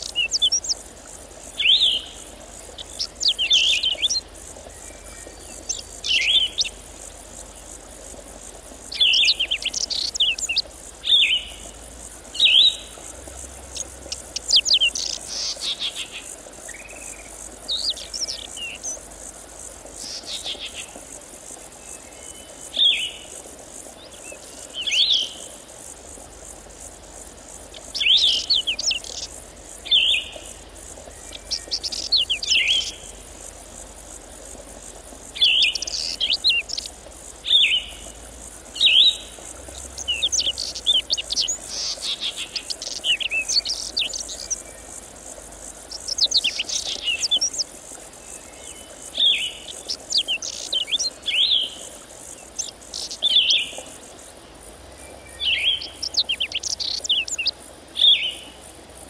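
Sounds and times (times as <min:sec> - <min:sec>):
songbird chirping: 0:00.0 - 0:19.2, 0:19.8 - 0:21.1, 0:26.4 - 0:54.0, 0:55.0 - 0:58.5
faint high hiss: 0:00.0 - 0:59.0.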